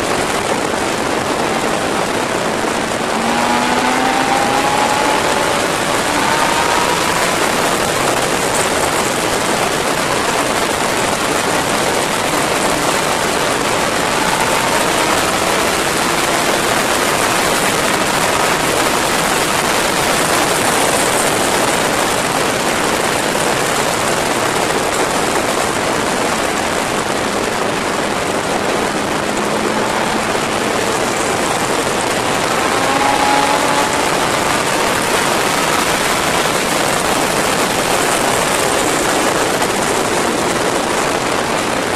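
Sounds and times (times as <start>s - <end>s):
motorcycle engine revving: 0.0s - 41.9s
wind rushing over camera: 0.0s - 41.9s.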